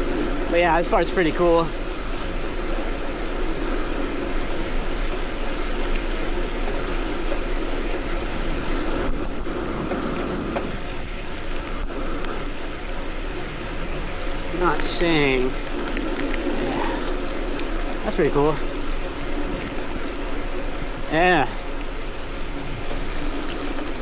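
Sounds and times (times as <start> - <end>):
road noise: 0.0 - 24.0
rushing wind: 0.0 - 24.0.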